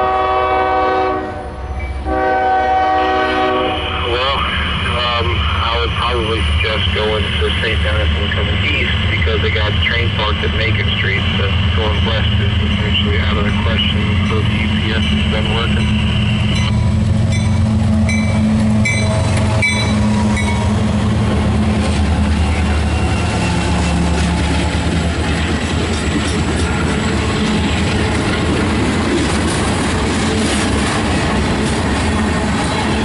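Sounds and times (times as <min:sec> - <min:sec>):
diesel locomotive engine drone: 0:00.0 - 0:33.0
rail cars rolling on track: 0:00.0 - 0:33.0.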